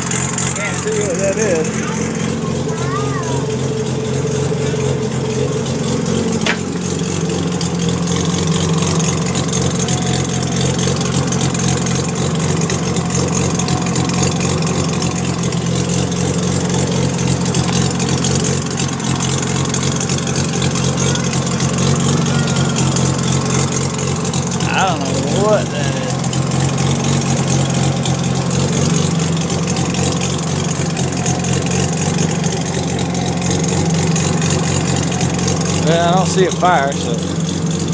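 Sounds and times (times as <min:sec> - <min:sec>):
rotary engine idling: 0:00.0 - 0:37.9.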